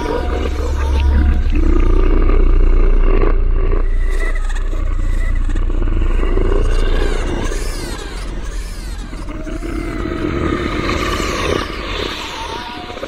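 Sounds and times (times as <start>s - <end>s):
low rumble: 0.0s - 11.0s
deep demonic growl and roar: 0.0s - 13.0s.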